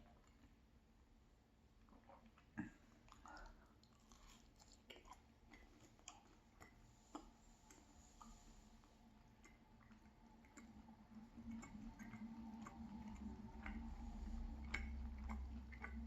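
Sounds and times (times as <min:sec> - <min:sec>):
wet chewing clicks and smacks: 0:00.0 - 0:00.9, 0:01.7 - 0:16.0.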